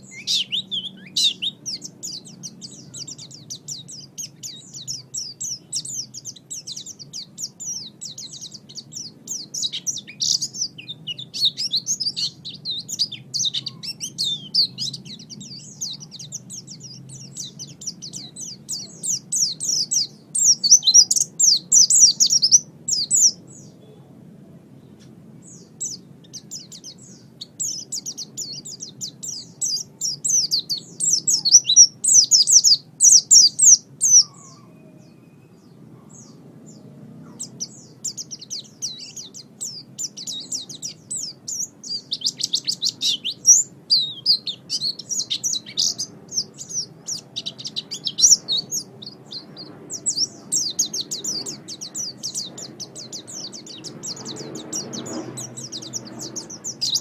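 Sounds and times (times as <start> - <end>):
bird twittering song: 0.0 - 24.1, 24.7 - 57.0.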